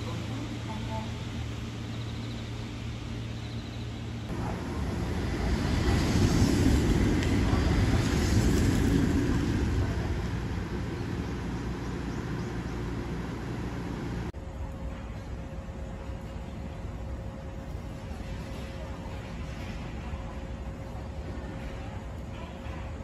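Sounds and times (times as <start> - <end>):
electric train motors and wheels rumbling: 0.0 - 23.0.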